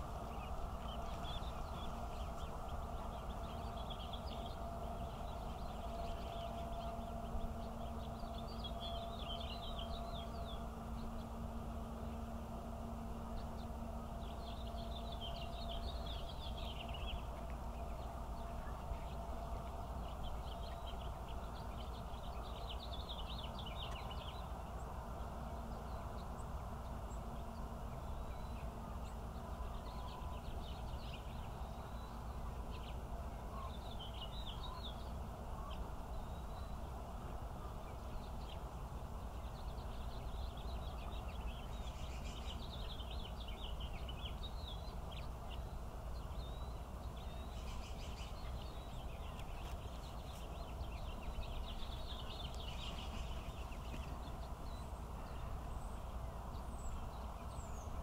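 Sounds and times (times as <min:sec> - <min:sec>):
low background rumble: 0:00.0 - 0:58.0.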